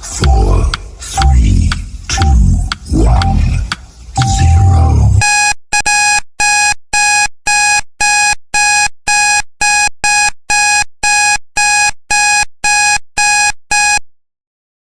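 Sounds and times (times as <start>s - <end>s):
timer alarm beeping: 0.2s - 14.0s.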